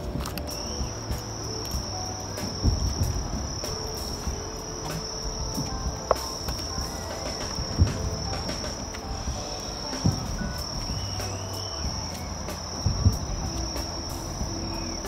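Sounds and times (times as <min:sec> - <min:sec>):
distant fireworks thumps: 0:00.0 - 0:14.6
night insects trilling: 0:00.0 - 0:15.0.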